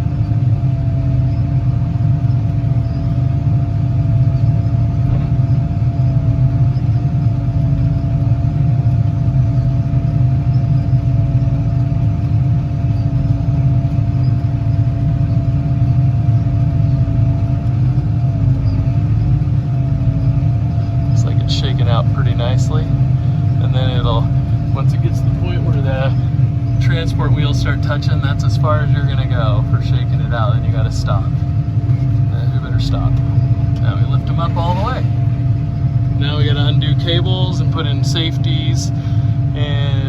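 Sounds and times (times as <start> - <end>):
hydraulic whine: 0.0 - 40.0
tractor engine rumbling: 0.0 - 40.0.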